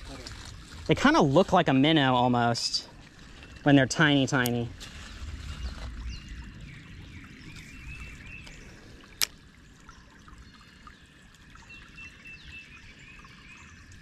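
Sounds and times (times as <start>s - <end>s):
creek water trickling: 0.0s - 14.0s.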